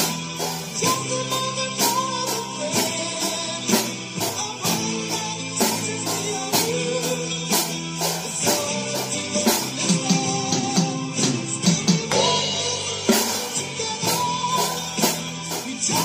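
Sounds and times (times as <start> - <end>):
electronic drum kit: 0.0 - 16.0
song with guitar and singing: 0.0 - 16.0.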